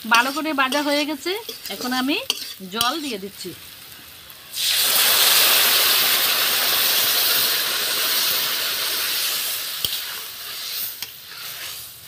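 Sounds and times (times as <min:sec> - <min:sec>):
water hissing in hot oil: 0:00.0 - 0:12.0.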